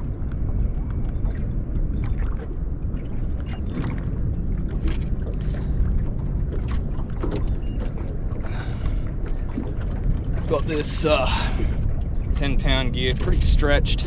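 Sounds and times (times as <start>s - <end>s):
water around boat: 0.0s - 14.0s
wind buffeting microphone: 0.0s - 14.0s.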